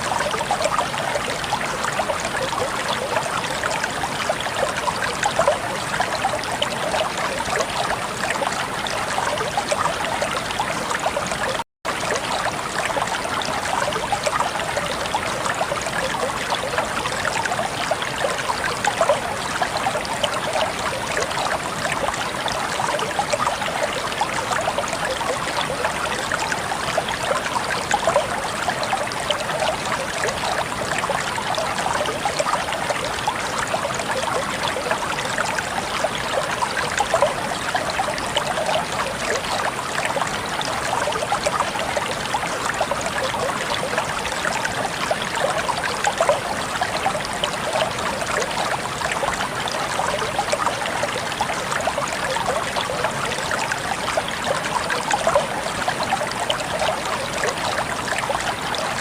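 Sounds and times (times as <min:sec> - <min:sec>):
stream trickling and splashing: 0:00.0 - 0:59.0.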